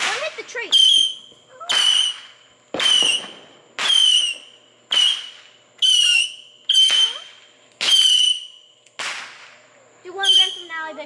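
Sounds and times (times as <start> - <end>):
fireworks pops: 0.0 - 9.6, 10.2 - 10.7
fireworks whistling: 0.0 - 11.0.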